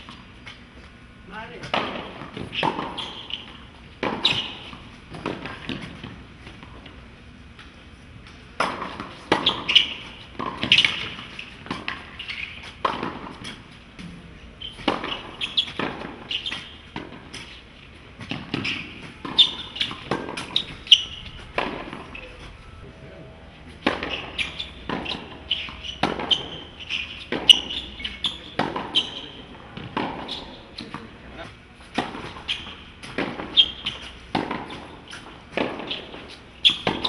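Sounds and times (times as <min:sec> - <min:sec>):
tennis balls bouncing on court: 0:00.0 - 0:22.5, 0:23.7 - 0:37.0
tennis balls struck by rackets: 0:01.3 - 0:37.0.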